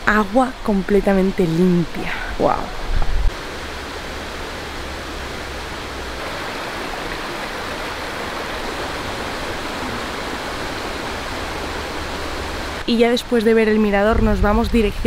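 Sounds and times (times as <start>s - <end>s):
stream rushing over boulders: 1.0s - 14.1s.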